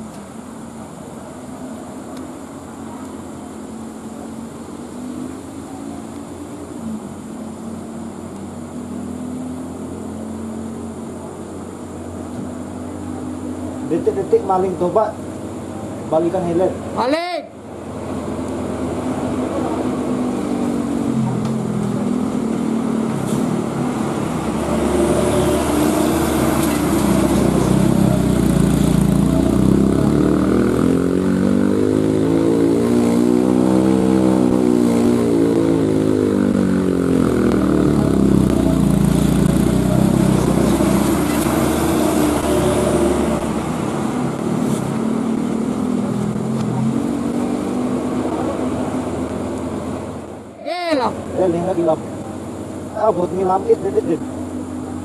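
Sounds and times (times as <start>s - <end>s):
truck diesel engine under load: 0.0s - 55.0s.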